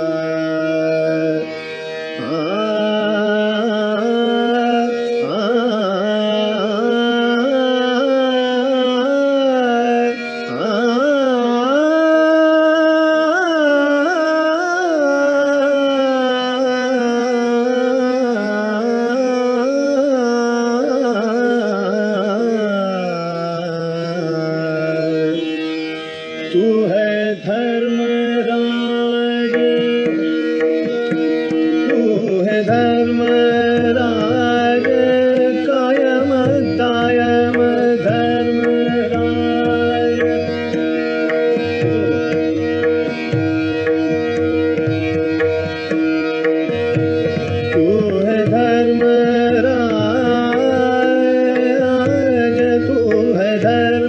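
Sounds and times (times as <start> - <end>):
man singing classical vocal: 0.0 - 25.7, 26.4 - 54.0
harmonium: 0.0 - 54.0
tanpura drone: 0.0 - 54.0.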